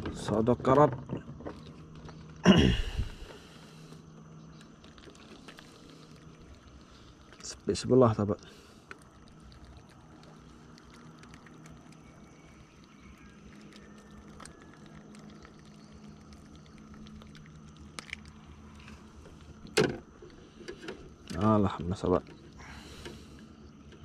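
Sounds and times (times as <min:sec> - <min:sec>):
faint high whine: 0:00.0 - 0:24.0
steady low hum: 0:00.0 - 0:24.0.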